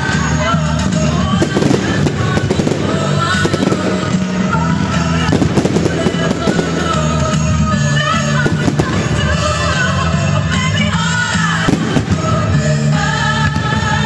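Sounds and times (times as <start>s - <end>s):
fireworks bursting and crackling: 0.0s - 14.0s
loud music: 0.0s - 14.0s.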